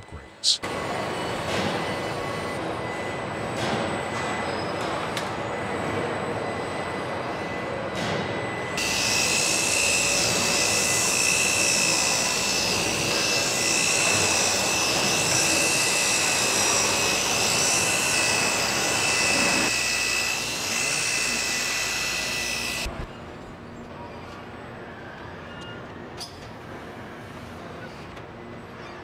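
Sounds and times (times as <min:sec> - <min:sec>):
high-pitched machine whine: 0:00.0 - 0:26.0.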